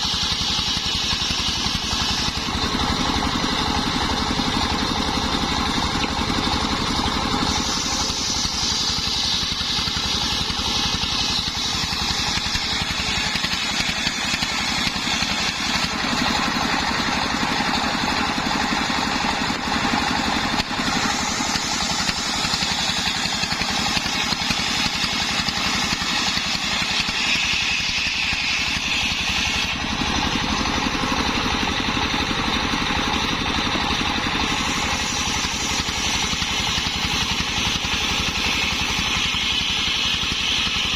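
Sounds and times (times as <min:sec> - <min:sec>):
circular saw cutting wood: 0:00.0 - 0:40.9
saw drive drone: 0:00.0 - 0:40.9.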